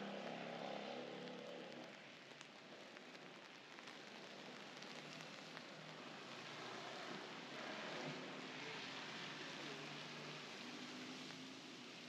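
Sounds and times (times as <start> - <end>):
light rain on wet pavement: 0.0 - 12.0.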